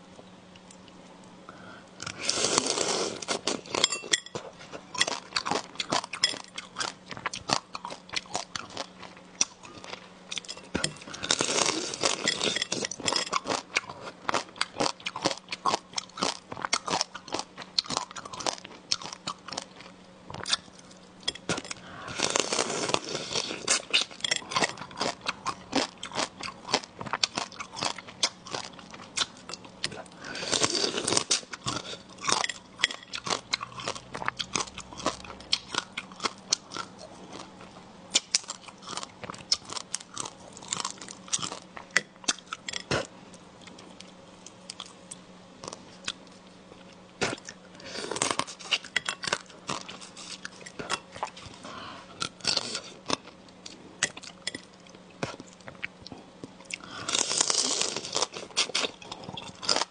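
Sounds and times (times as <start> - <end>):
crunching crab shells while chewing: 0.5 - 59.9.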